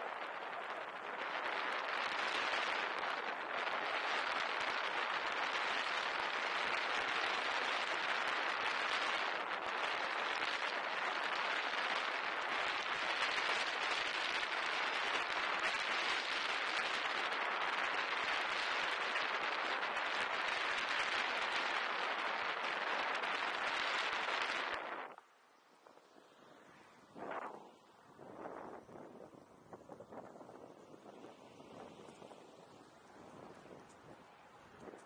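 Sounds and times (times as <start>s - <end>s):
wind on microphone: 0.0s - 25.2s, 25.8s - 35.0s.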